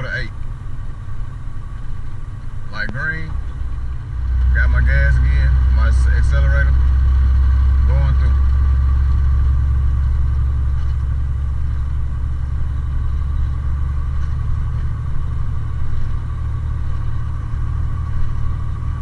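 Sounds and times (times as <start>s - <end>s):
faint steady whine: 0.0s - 19.0s
truck diesel engine rumbling: 0.0s - 19.0s.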